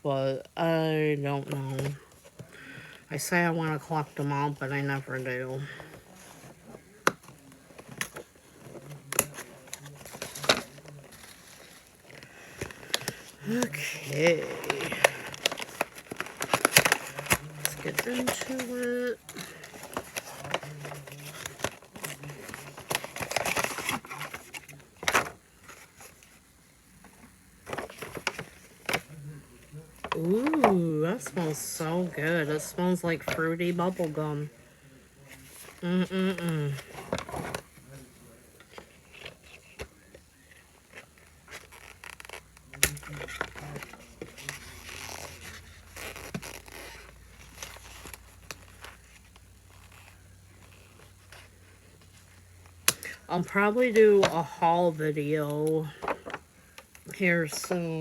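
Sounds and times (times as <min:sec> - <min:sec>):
plastic wrapper rustling: 0:01.6 - 0:57.8
sharp plastic crackle: 0:05.6 - 0:34.1, 0:35.1 - 0:54.6, 0:55.8 - 0:57.8.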